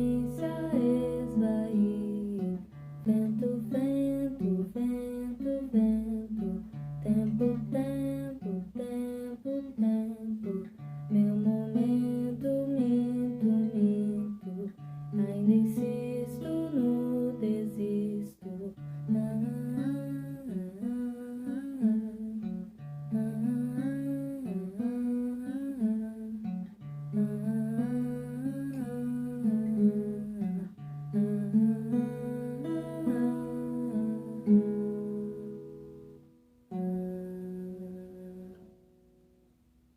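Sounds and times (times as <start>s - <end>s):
person singing: 0.0s - 26.5s, 27.1s - 35.4s
acoustic guitar: 0.0s - 39.9s.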